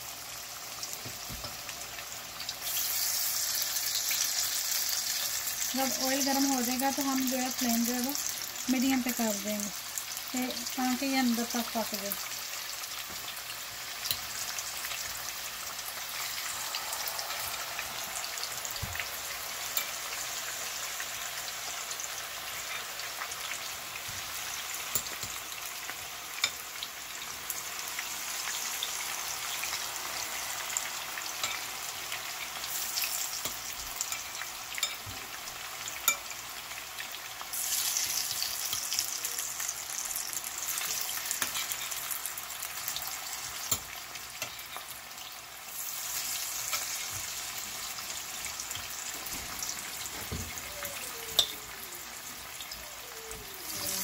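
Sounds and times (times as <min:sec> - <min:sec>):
chicken frying in oil: 0:00.0 - 0:54.0.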